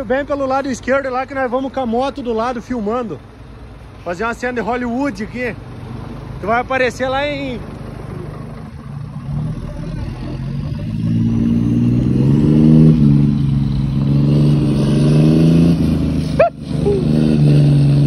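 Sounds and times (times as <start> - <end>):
truck diesel engine accelerating: 0.0 - 18.0.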